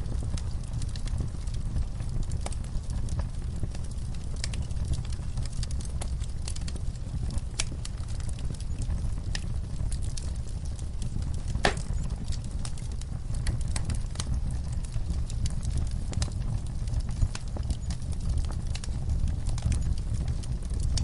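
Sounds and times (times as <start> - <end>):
fire crackling: 0.0 - 21.0
low rumble of flames: 0.0 - 21.0.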